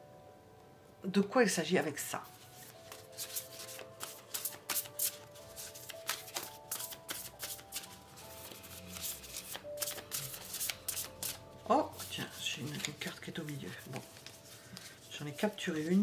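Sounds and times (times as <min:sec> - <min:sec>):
soft background music: 0:00.0 - 0:16.0
cards being shuffled: 0:02.3 - 0:11.4, 0:12.0 - 0:16.0.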